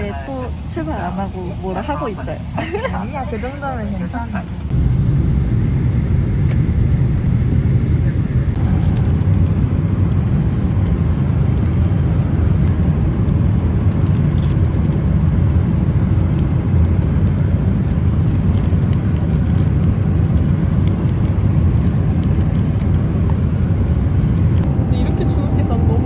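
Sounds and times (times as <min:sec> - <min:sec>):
low rumble of moving vehicle: 0:00.0 - 0:26.0.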